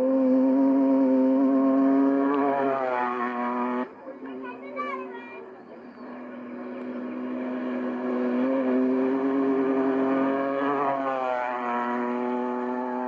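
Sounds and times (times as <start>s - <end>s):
truck engine passing by: 0.0s - 13.0s.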